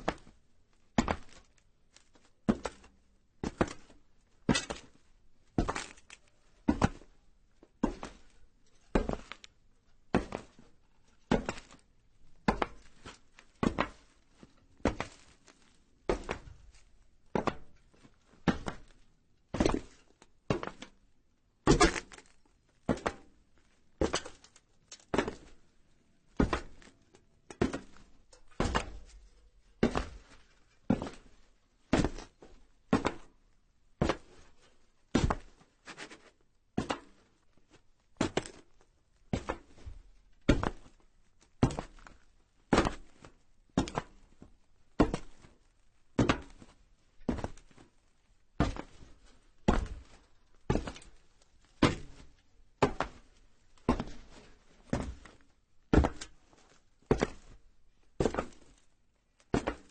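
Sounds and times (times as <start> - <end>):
footsteps on metal roof: 1.0 - 21.0, 21.7 - 23.4, 24.0 - 25.7, 26.4 - 33.4, 34.0 - 41.0, 41.6 - 45.6, 46.2 - 48.0, 48.6 - 58.9, 59.5 - 59.9.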